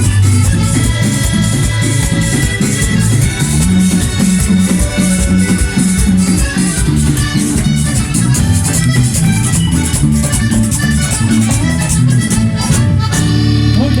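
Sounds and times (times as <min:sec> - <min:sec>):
accordion: 0:00.0 - 0:14.0
bass: 0:00.0 - 0:14.0
rattling percussion beat: 0:00.0 - 0:14.0.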